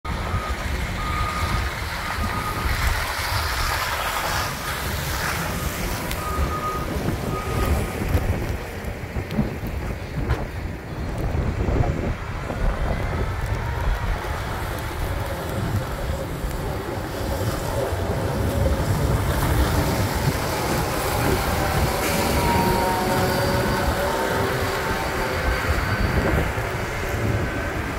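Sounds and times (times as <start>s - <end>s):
diesel engine rumble: 0.0s - 27.9s
wind buffeting microphone: 0.1s - 27.9s.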